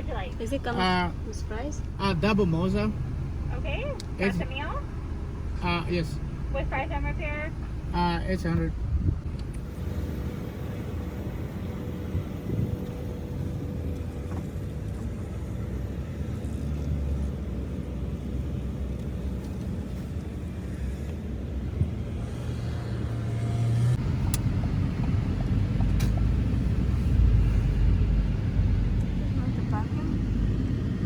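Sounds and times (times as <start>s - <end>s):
car rumble inside cabin: 0.0s - 31.0s.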